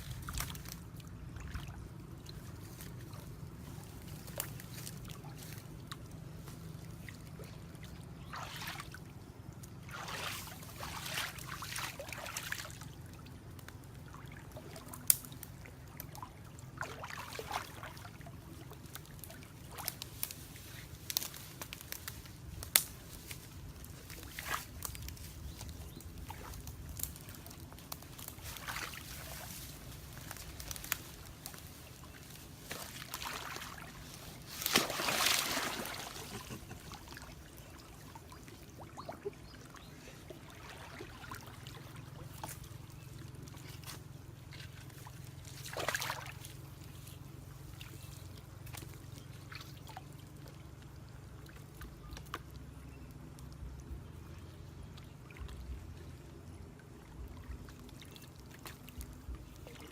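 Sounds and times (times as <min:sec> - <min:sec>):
water splashes: 0:00.0 - 0:06.1, 0:06.7 - 0:59.9
water sloshing and trickling: 0:00.0 - 0:59.9.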